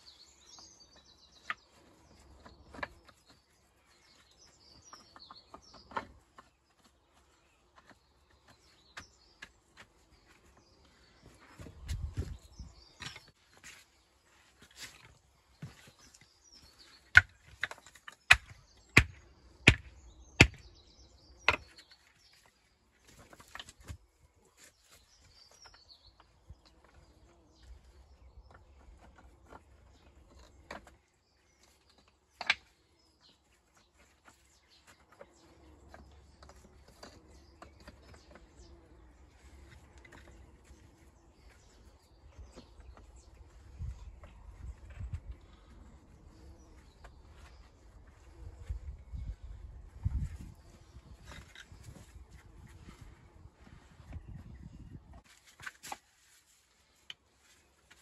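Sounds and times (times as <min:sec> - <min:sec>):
birds chirping faintly: 0:00.0 - 0:58.0.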